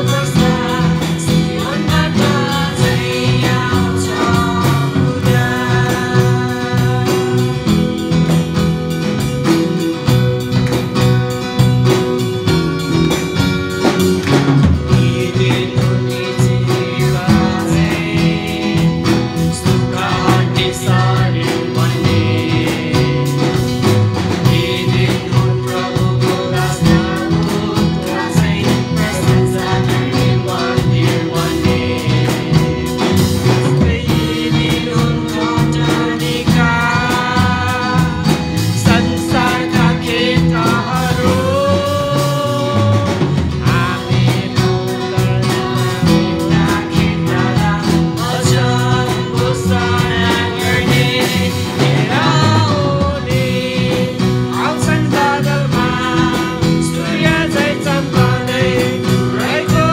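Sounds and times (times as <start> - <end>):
man and women singing: 0.0 - 12.6, 13.4 - 59.9
acoustic guitar strummed: 0.0 - 59.9
drums: 0.0 - 59.9.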